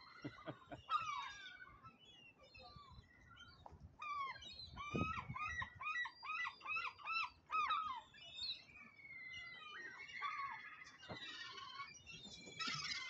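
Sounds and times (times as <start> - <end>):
gulls yelping: 0.0 - 2.0, 4.0 - 13.0.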